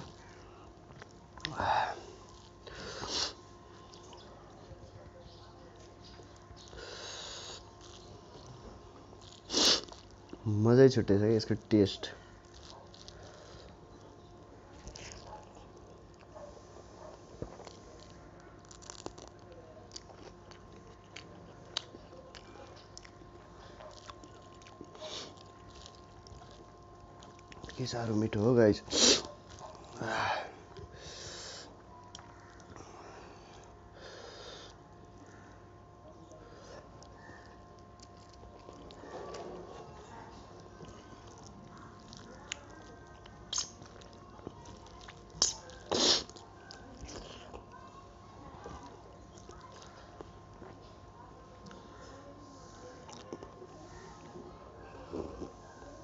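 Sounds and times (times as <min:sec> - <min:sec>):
person chewing food: 0:00.0 - 0:04.8, 0:05.7 - 0:10.5, 0:12.3 - 0:27.8, 0:29.2 - 0:33.8, 0:36.3 - 0:47.7, 0:48.6 - 0:51.0, 0:53.0 - 0:54.4
faint steady hum: 0:00.0 - 0:56.0.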